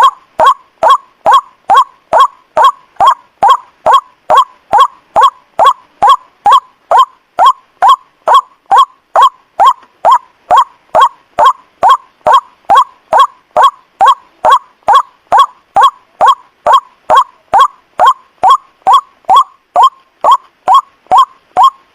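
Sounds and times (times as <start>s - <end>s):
waterhen croaking call: 0.0s - 21.9s.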